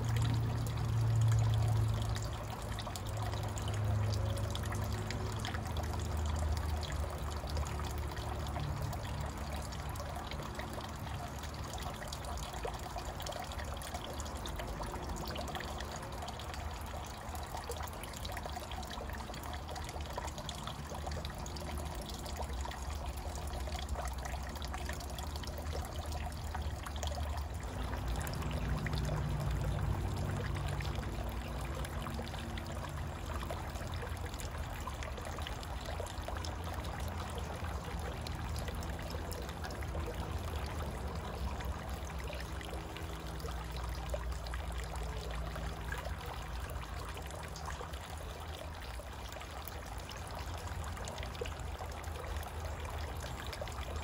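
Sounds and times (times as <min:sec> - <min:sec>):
water splashing into stone basin: 0:00.0 - 0:54.0.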